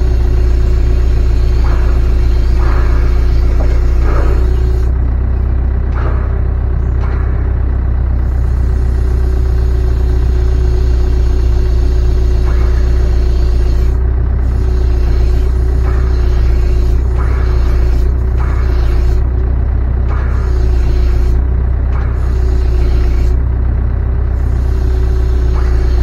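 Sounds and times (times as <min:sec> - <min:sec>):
hydraulic machine low hum: 0:00.0 - 0:26.0.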